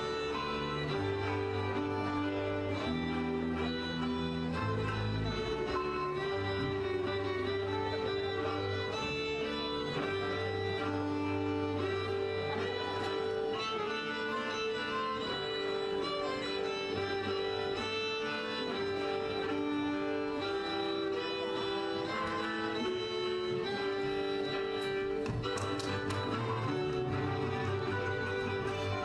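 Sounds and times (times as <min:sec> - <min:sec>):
folk string band music: 0:00.0 - 0:29.0.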